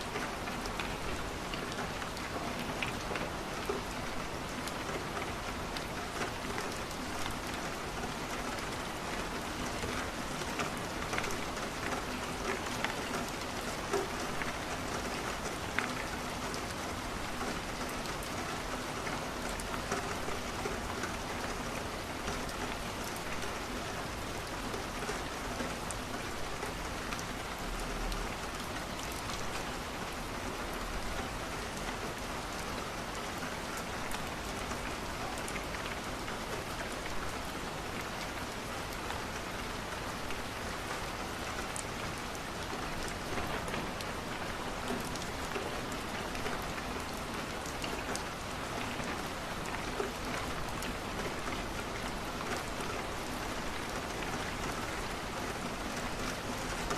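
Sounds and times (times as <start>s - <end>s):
rain pattering on a window: 0.0s - 56.9s.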